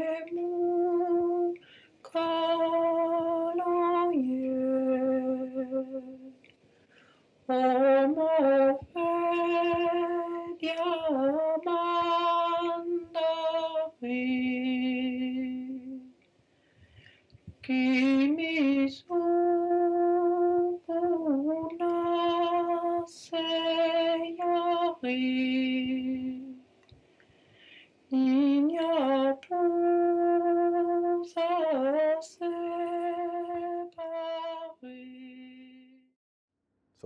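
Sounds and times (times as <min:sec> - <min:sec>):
woman singing a lullaby: 0:00.0 - 0:06.4, 0:07.5 - 0:16.2, 0:17.5 - 0:26.6, 0:28.1 - 0:36.0.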